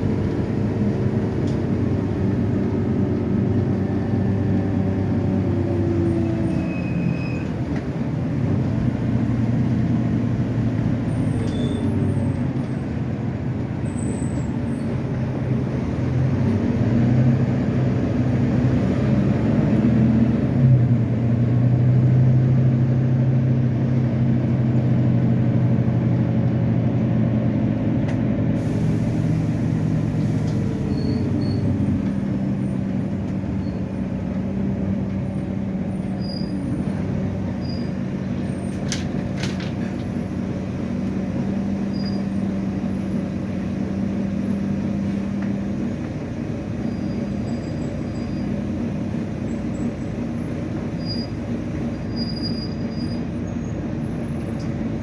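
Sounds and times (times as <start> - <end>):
bus diesel engine accelerating: 0.0 - 55.0.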